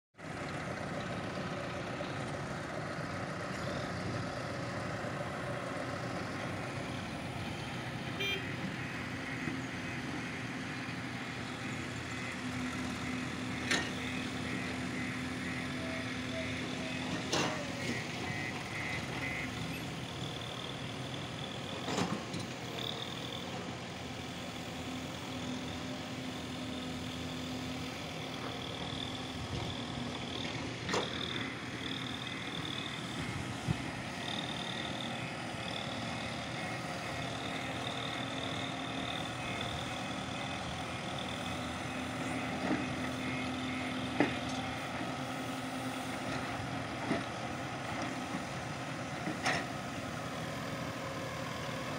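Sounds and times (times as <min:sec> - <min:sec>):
diesel engines running: 0:00.2 - 0:51.9.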